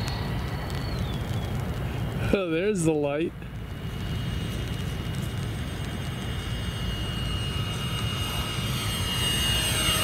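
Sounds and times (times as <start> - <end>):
model jet engines whining: 0.0 - 10.0.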